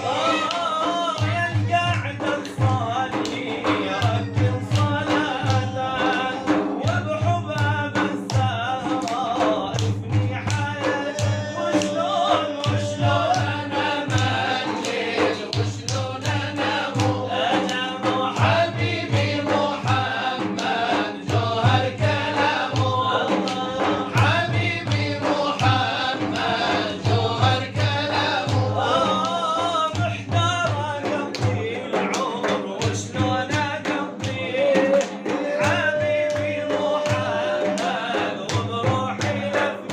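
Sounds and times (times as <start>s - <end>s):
hand drums beating: 0.0s - 39.9s
male voices chanting: 0.0s - 39.9s.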